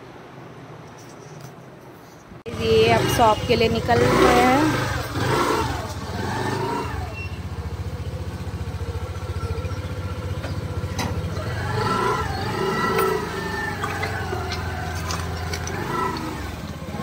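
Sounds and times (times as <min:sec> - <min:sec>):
scooter engine idling: 0:02.5 - 0:17.0.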